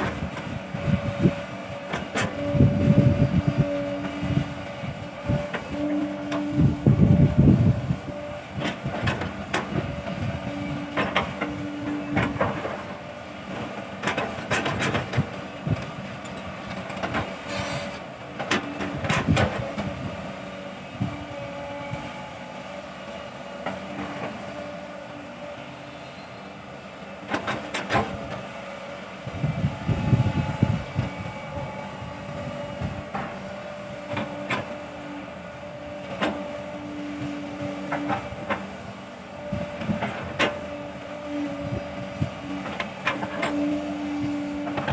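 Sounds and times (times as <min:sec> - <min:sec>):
excavator engine and hydraulics: 0:00.0 - 0:44.9.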